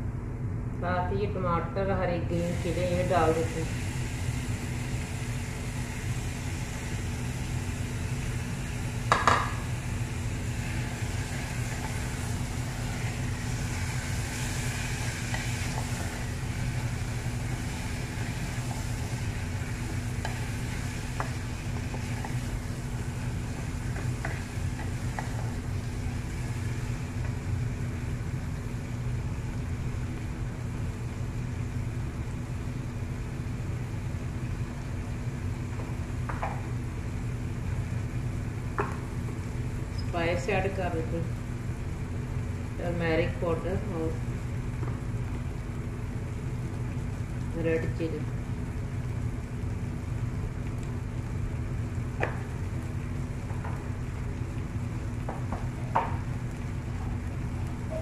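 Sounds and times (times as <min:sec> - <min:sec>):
food sizzling in a pot: 0:02.4 - 0:58.0.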